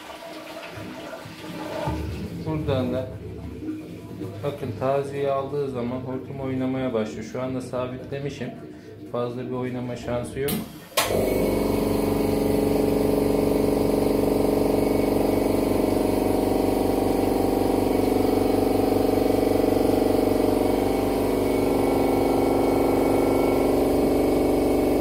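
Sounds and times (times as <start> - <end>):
electric pump humming and pulsing: 0.0 - 25.0.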